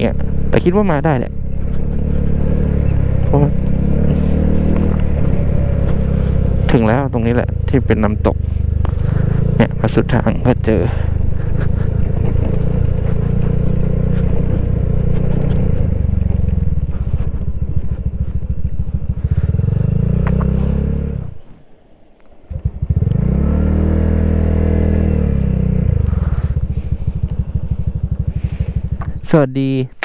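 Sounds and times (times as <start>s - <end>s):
scooter engine running: 0.0s - 29.8s.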